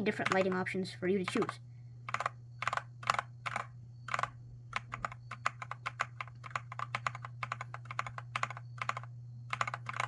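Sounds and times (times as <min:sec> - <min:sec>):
mechanical keyboard typing: 0:00.0 - 0:10.0.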